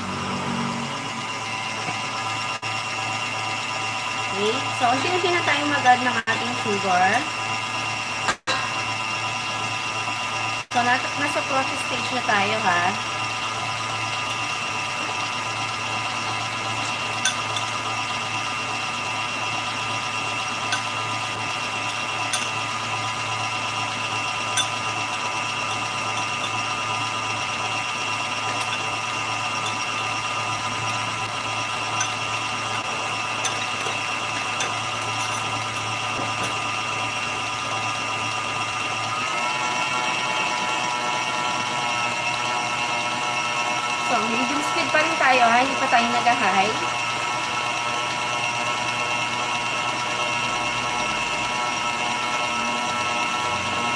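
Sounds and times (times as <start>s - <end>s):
electric stand mixer whisking: 0.0s - 53.9s.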